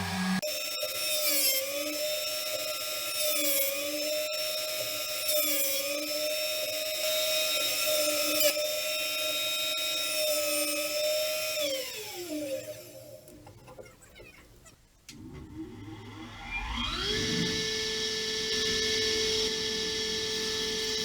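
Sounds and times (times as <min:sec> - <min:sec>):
power tool motor whining: 0:00.0 - 0:13.3, 0:15.6 - 0:21.0.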